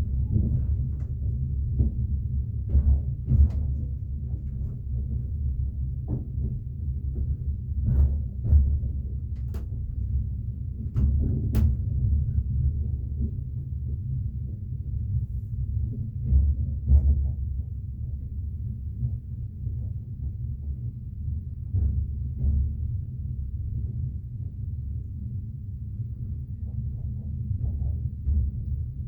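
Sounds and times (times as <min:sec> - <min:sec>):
train rumbling on track: 0:00.0 - 0:29.0.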